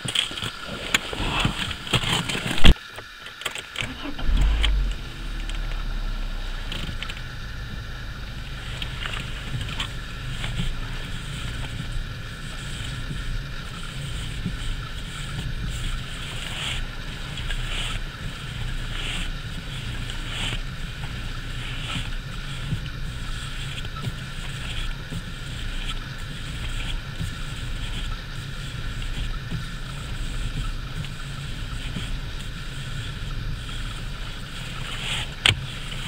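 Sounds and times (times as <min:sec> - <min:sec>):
power steering hissing swishes: 0:00.0 - 0:02.8, 0:03.7 - 0:36.0
car engine idling: 0:00.0 - 0:36.0.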